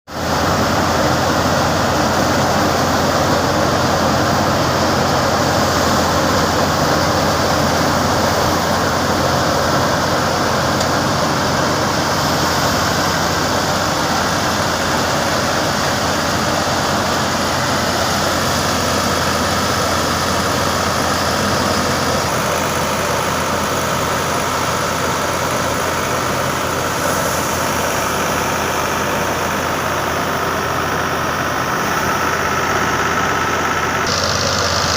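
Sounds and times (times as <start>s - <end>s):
tractor engine hum: 0.1s - 34.9s
thresher machine rushing noise: 0.2s - 34.9s.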